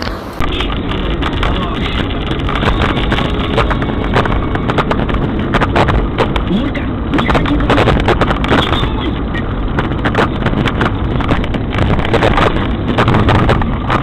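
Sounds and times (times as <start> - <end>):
vehicle rumble and rush: 0.0 - 14.0.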